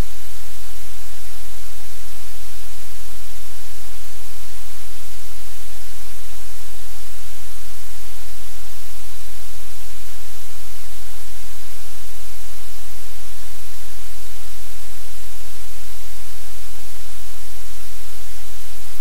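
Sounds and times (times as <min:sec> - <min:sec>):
static hiss: 0:00.0 - 0:19.0.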